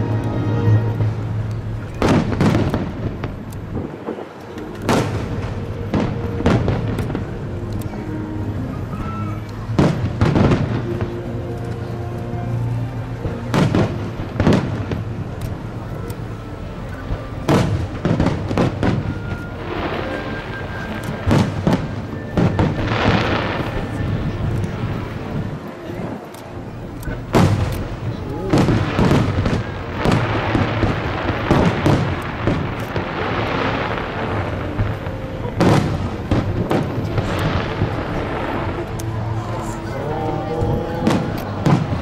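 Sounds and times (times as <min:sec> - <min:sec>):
fireworks bursting: 0:00.0 - 0:42.0
music playing: 0:00.0 - 0:42.0.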